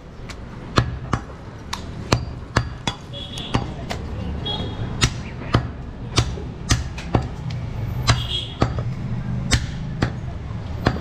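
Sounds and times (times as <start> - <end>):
cleaver chopping meat and bone: 0.3 - 4.0, 5.0 - 11.0.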